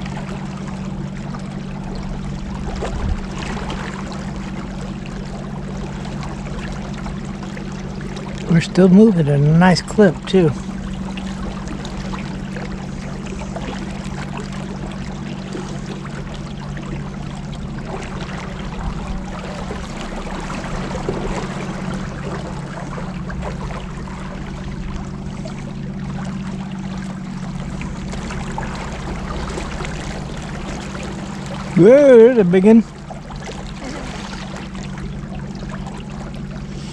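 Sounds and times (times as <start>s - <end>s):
boat motor humming: 0.0s - 36.9s
water rushing past hull: 0.0s - 36.9s.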